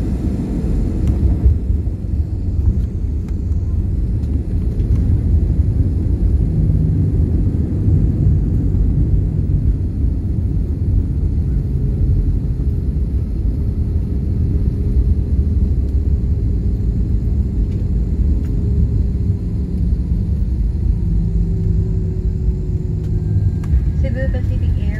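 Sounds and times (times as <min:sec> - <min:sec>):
airliner cabin rumble: 0:00.0 - 0:24.9
faint steady hum: 0:00.0 - 0:24.9.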